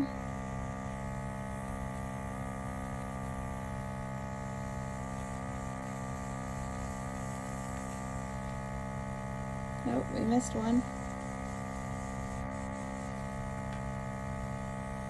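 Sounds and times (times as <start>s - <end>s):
small vacuum suction motor humming: 0.0s - 15.0s.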